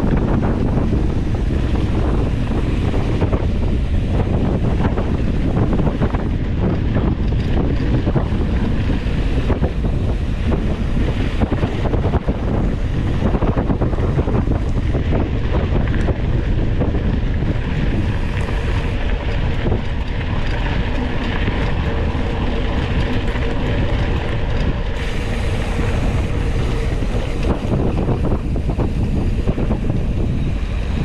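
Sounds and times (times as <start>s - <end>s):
bike rattling and knocking: 0.0s - 31.0s
wind buffeting microphone: 0.0s - 31.0s.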